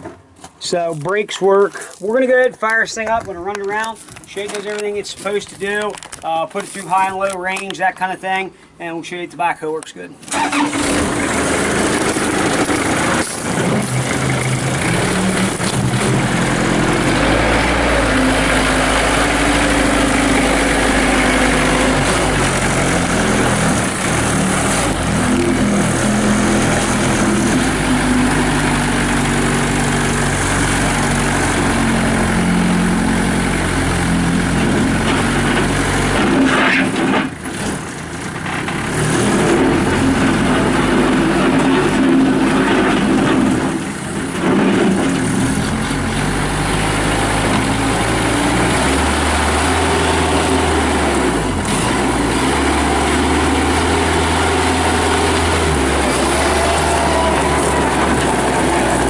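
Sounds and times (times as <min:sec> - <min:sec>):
diesel engine running: 0:10.3 - 0:59.0.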